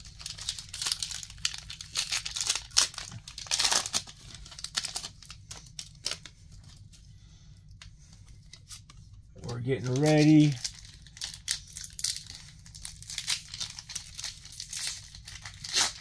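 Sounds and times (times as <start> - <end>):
foil wrappers crinkling: 0.0 - 6.9, 8.6 - 16.0.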